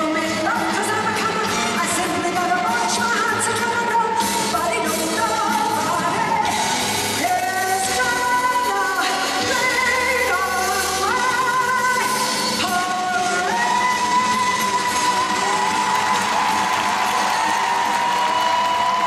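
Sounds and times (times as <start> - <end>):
woman singing: 0.0 - 16.3.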